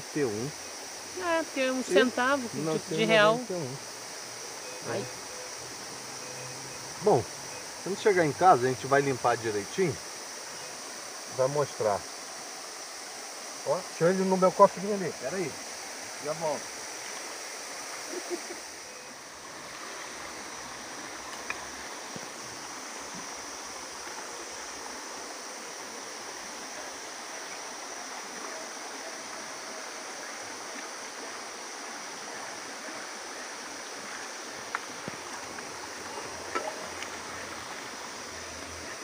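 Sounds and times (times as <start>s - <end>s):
flowing water at waterfall: 0.0s - 39.0s.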